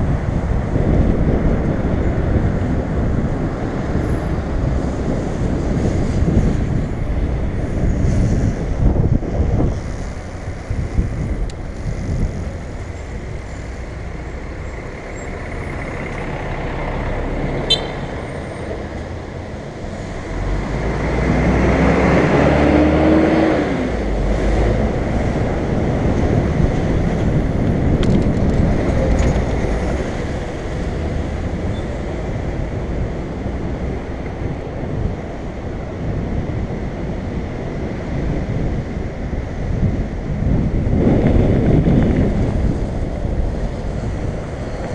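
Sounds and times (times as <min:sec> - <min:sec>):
bus engine passing: 0:00.0 - 0:44.9
road traffic rumble: 0:00.0 - 0:44.9.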